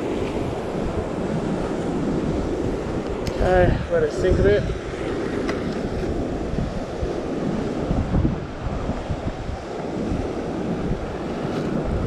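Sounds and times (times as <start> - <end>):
ocean swell washing on rocks: 0.0 - 12.0
wind buffeting microphone: 0.0 - 12.0.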